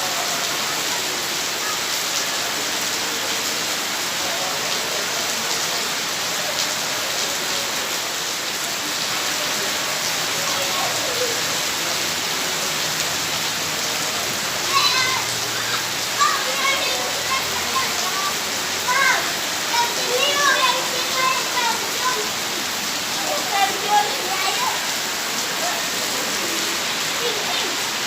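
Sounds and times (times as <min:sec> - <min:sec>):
faint voices: 0:00.0 - 0:28.0
heavy rain pouring: 0:00.0 - 0:28.0.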